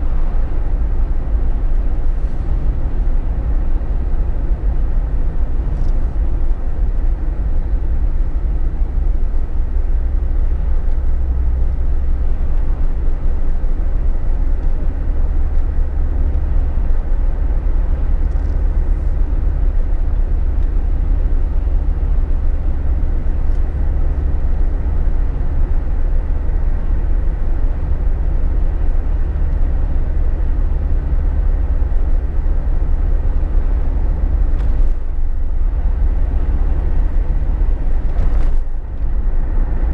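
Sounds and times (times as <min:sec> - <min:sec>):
car cabin road noise: 0:00.0 - 0:39.9.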